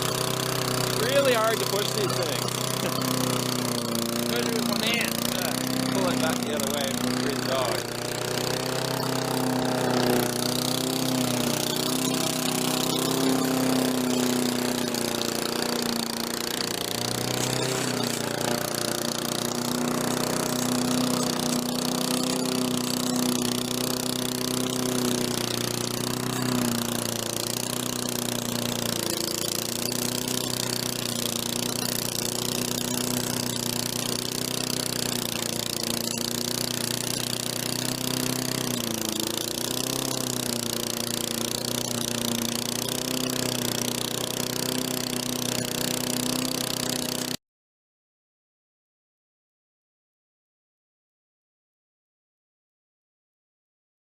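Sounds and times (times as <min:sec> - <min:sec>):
lawn mower engine running: 0:00.0 - 0:47.4.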